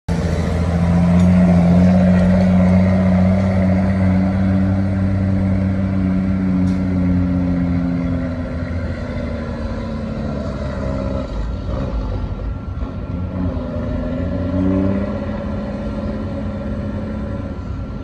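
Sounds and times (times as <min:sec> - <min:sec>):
diesel engine running under load: 0:00.1 - 0:18.0.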